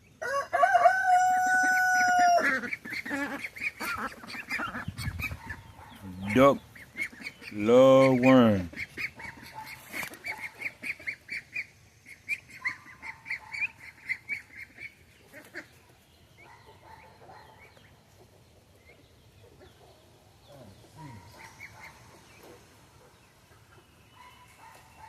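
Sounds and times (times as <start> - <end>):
ducks calling: 1.5 - 25.0.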